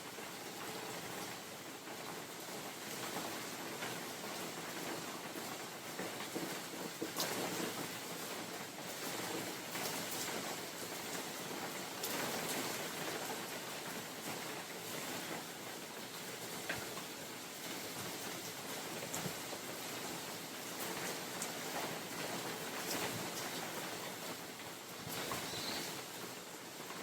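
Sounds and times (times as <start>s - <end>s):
rain falling in forest: 0.0s - 27.0s.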